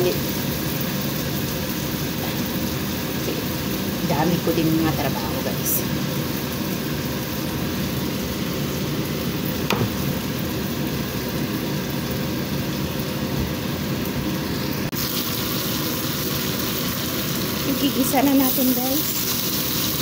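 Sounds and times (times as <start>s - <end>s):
chicken sizzling in frying pan: 0.0s - 20.0s.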